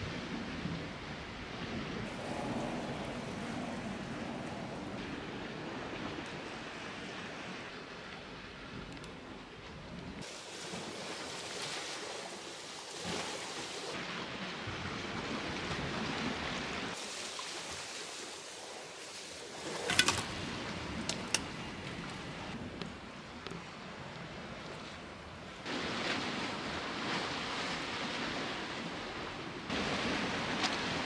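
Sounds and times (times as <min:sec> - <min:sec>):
surf: 0:00.0 - 0:08.9, 0:10.2 - 0:31.0
wind: 0:00.0 - 0:31.0.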